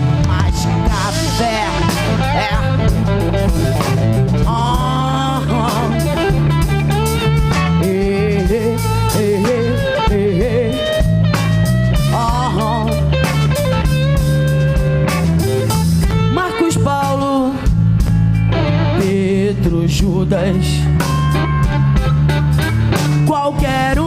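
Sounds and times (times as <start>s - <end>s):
drum kit: 0.0s - 24.0s
electric bass: 0.0s - 24.0s
electric guitar lead: 0.0s - 24.0s.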